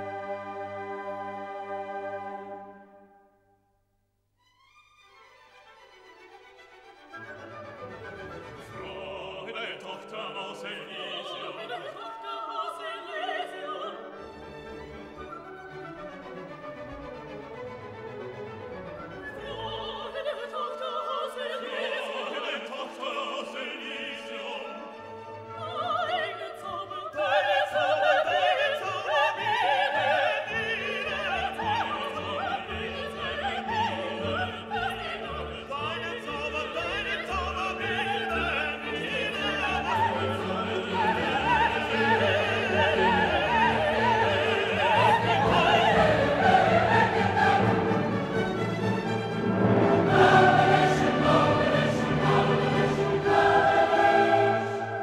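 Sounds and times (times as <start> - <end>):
orchestral piece with operatic singing: 0.0 - 3.4, 4.6 - 55.0.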